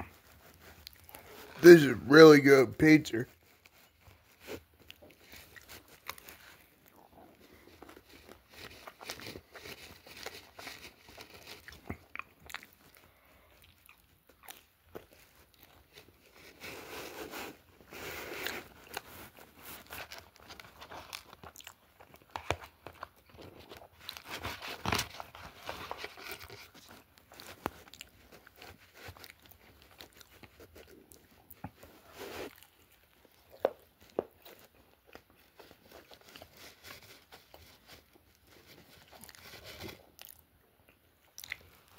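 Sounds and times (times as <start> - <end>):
person chewing and biting food: 0.0 - 1.6, 3.6 - 36.8, 38.5 - 41.9.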